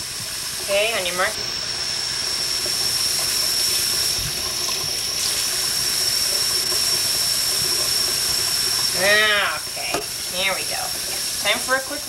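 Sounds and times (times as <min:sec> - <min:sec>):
tap water splashing in sink: 0:00.0 - 0:12.0.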